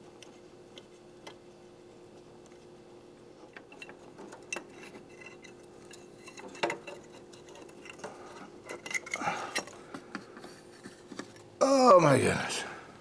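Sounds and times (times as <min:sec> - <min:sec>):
faint steady hum: 0:00.2 - 0:13.0.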